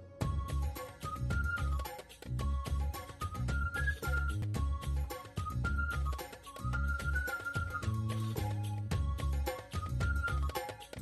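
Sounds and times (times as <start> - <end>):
music with plucked melody: 0.0 - 11.0.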